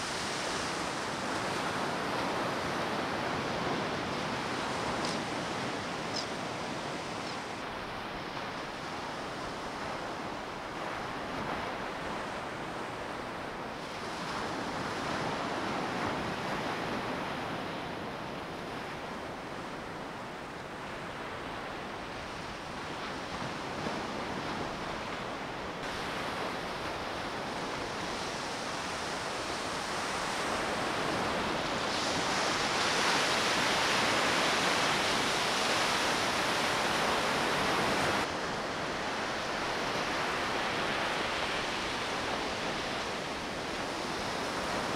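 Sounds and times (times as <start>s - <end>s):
surf washing onto beach: 0.0s - 44.9s.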